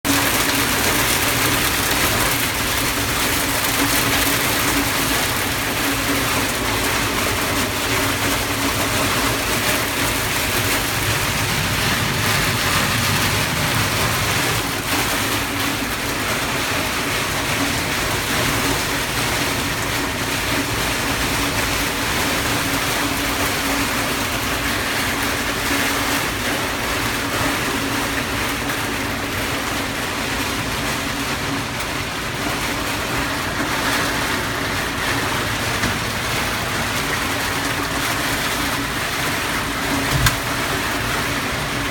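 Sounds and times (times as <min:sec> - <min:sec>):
tractor engine running: 0:00.0 - 0:41.9
wind and rain hiss: 0:00.1 - 0:41.9.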